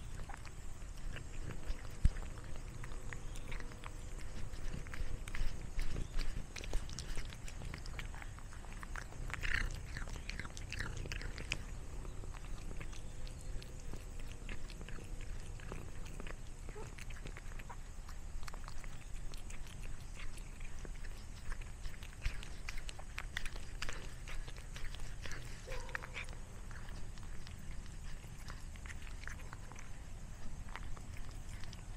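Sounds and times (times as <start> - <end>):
cat chewing a snack: 0.0 - 31.9.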